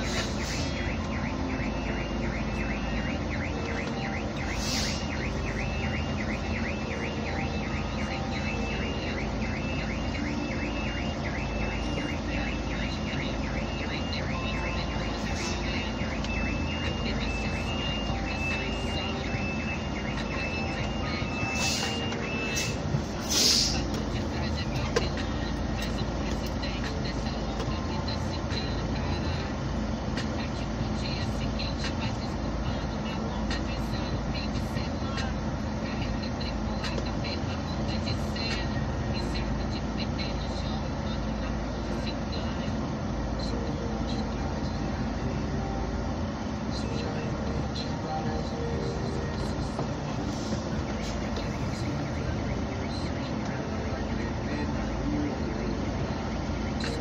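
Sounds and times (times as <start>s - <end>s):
diesel truck engine running: 0.0s - 57.0s
reversing alarm beeps: 0.0s - 57.0s.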